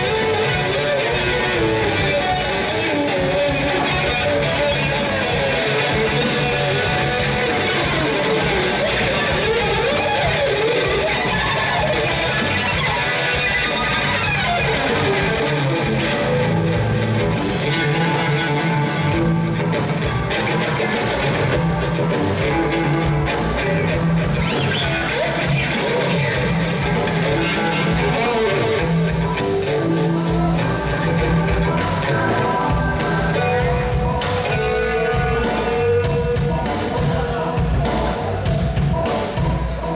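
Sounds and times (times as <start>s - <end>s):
guitar rock music: 0.0s - 39.9s.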